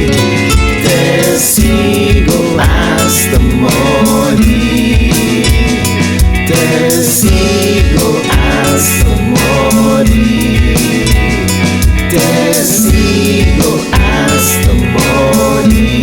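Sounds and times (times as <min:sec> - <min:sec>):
steady beat: 0:00.0 - 0:16.0
voices singing in harmony: 0:00.0 - 0:16.0.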